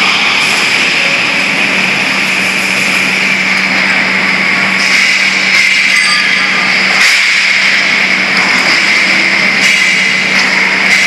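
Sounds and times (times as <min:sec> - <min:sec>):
machinery low hum: 0:00.0 - 0:11.0.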